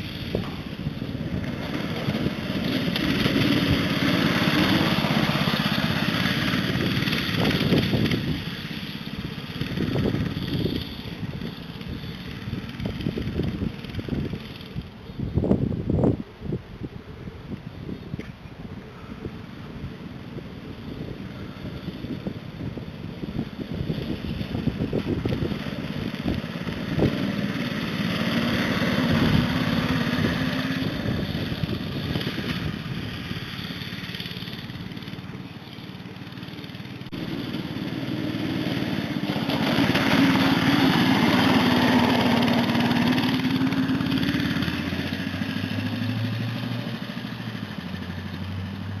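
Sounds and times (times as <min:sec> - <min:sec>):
go-kart engine running: 0:00.0 - 0:49.0.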